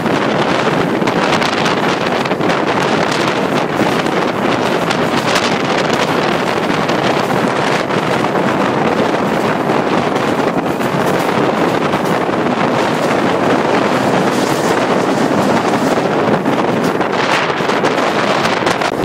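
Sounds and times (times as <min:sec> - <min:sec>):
train running on track: 0:00.0 - 0:19.0
wind rushing over microphone: 0:00.0 - 0:19.0.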